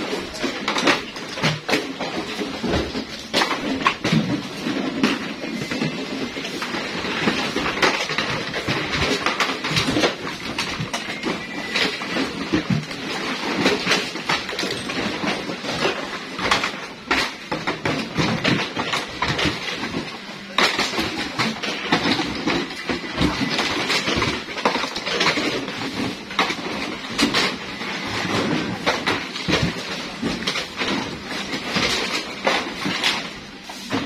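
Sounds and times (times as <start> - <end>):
plastic crates clattering: 0.0 - 34.0.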